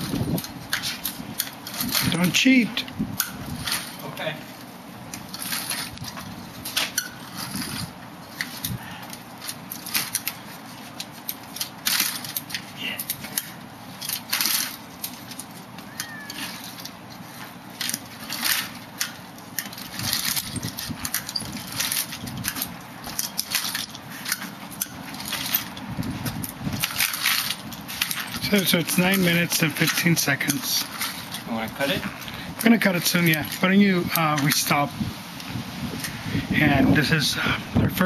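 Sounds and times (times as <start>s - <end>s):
walker legs scraping and knocking: 0.0s - 38.0s
walker wheels rolling: 0.0s - 38.0s.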